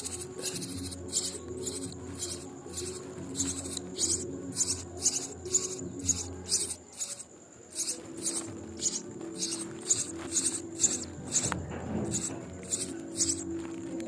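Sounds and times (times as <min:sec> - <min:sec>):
nestling birds begging calls: 0:00.0 - 0:14.0.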